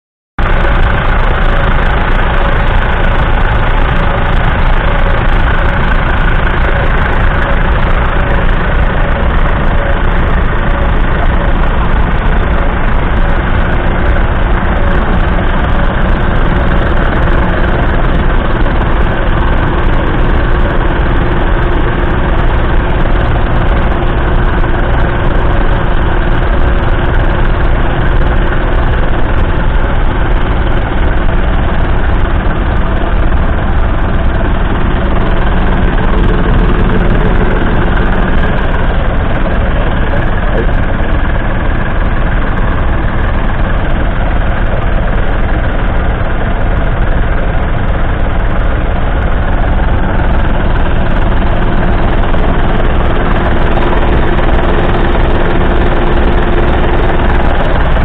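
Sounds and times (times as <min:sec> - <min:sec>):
tractor diesel engine running: 0:00.4 - 0:58.0.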